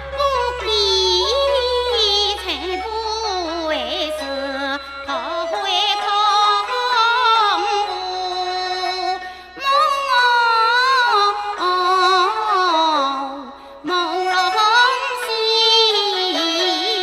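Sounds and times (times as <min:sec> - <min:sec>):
woman singing opera: 0:00.2 - 0:17.0.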